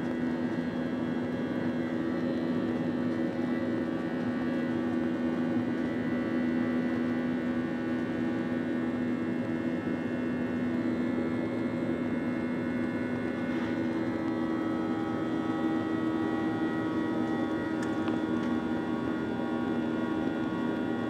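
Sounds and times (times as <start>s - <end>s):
jet engines droning in cabin: 0.0s - 21.0s.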